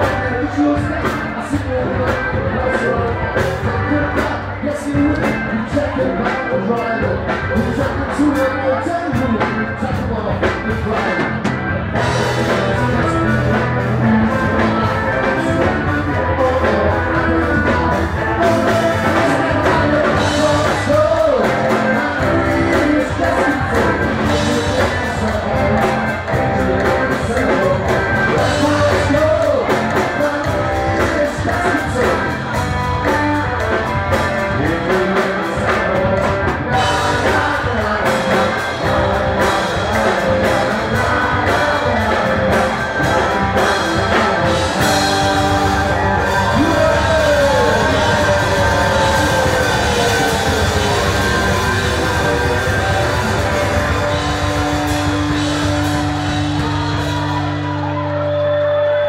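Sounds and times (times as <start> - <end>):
electric guitar: 0.0 - 59.0
lead singer singing: 0.0 - 59.0.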